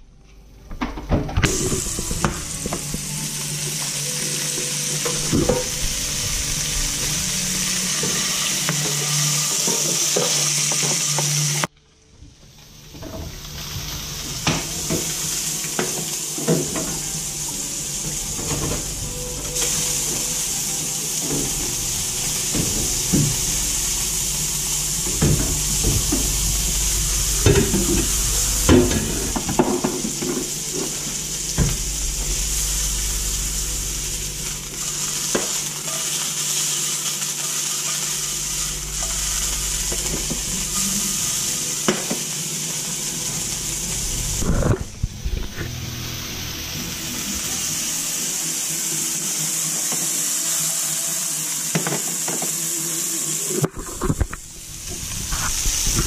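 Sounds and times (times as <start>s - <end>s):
fish sizzling in a frying pan: 1.4s - 11.7s, 12.7s - 44.6s, 46.0s - 56.0s.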